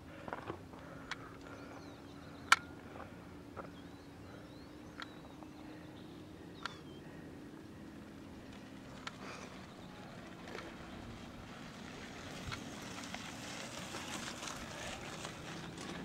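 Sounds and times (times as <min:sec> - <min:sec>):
steady low hum: 0:00.0 - 0:16.0
small birds chirping: 0:00.1 - 0:13.2.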